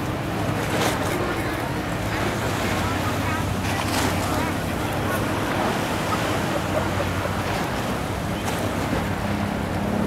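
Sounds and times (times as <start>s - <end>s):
choppy water: 0.0s - 10.0s.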